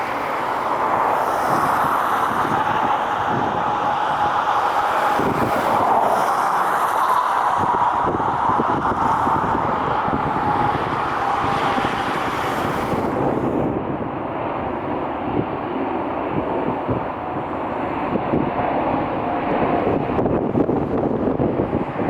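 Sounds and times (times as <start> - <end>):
jet engines passing: 0.0 - 22.0
wind buffeting microphone: 0.0 - 22.0.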